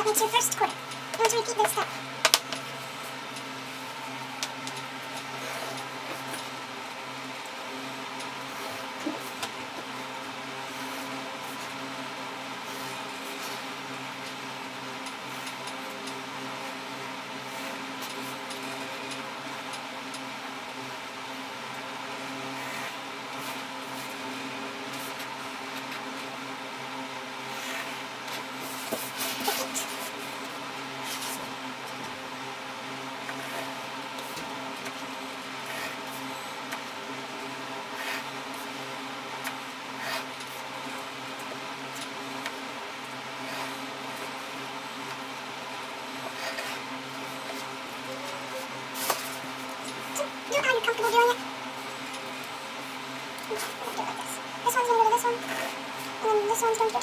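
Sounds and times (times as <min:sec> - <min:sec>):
electrical hum and hiss: 0:00.0 - 0:57.0.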